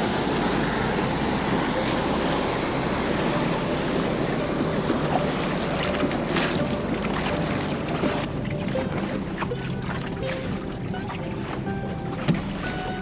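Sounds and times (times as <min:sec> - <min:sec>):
water slapping against hull: 0:00.0 - 0:13.0
water washing along hull: 0:00.0 - 0:13.0.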